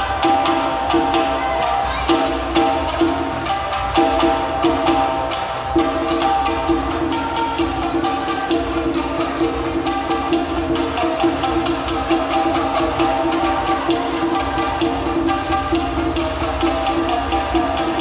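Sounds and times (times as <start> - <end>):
shamisen ensemble playing folk tune: 0.0 - 18.0.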